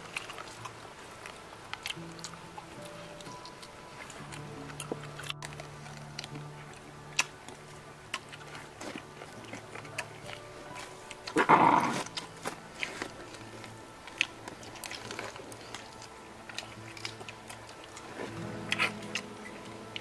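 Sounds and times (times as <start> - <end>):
background music: 0.0 - 20.0
wet chewing and lip-smacking: 0.0 - 20.0.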